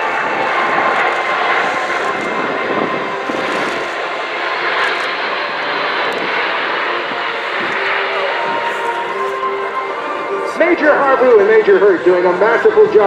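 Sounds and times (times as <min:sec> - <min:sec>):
jet engines roaring in flight: 0:00.0 - 0:13.0.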